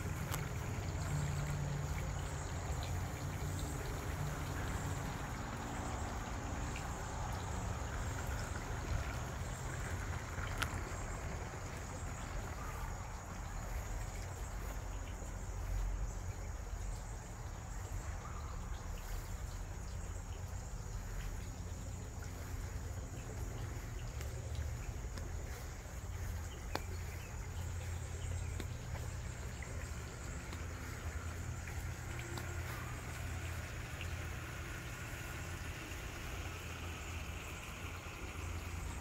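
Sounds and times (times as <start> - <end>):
continuous low rumble: 0.0 - 39.0
insects chirping: 0.0 - 39.0.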